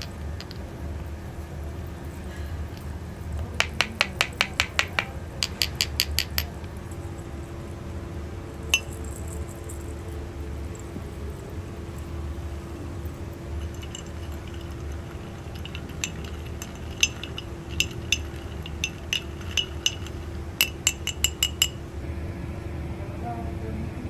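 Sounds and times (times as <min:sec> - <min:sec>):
dishes clinking: 0:00.0 - 0:07.4, 0:08.6 - 0:22.0
steady low hum: 0:00.0 - 0:24.0.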